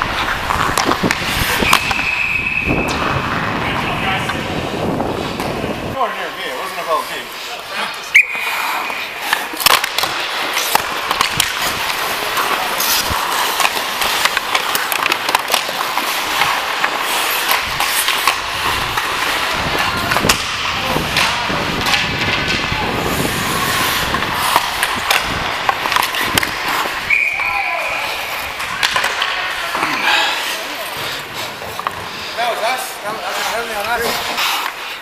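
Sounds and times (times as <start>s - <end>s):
hockey sticks and puck clacking: 0.0s - 35.0s
skates scraping on ice: 0.0s - 35.0s.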